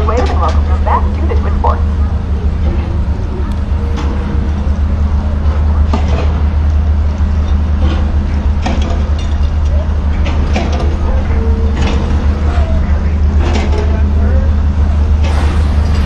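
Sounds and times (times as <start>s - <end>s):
ship diesel engines rumbling: 0.0s - 16.0s.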